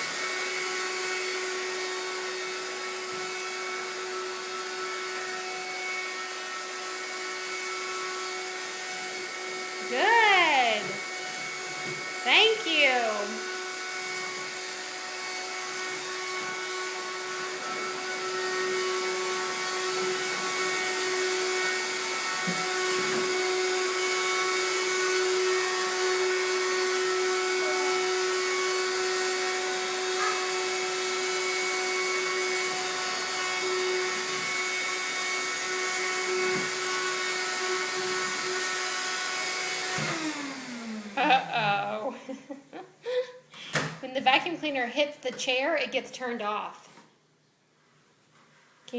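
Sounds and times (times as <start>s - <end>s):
vacuum cleaner motor: 0.0s - 43.3s.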